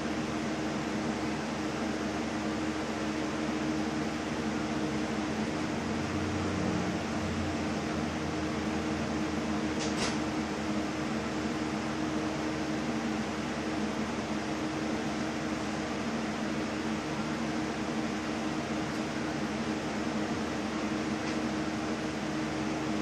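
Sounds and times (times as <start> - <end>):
fan whirring: 0.0 - 23.0.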